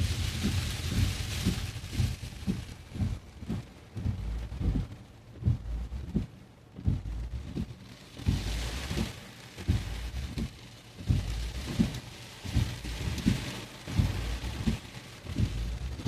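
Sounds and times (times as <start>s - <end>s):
heavy rain drumming on car: 0.0s - 16.0s
low regular thump: 0.0s - 16.0s.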